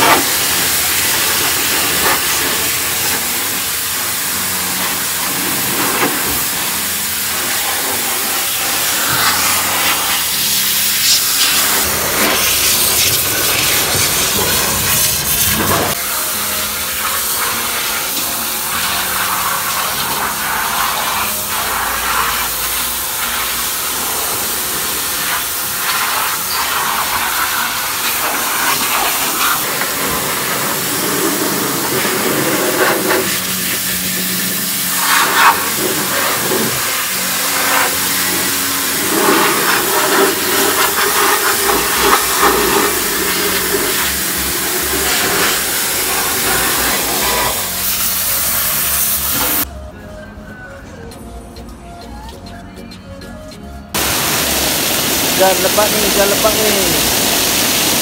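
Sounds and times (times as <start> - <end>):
pressure washer spraying: 0.0 - 49.7, 54.0 - 58.0.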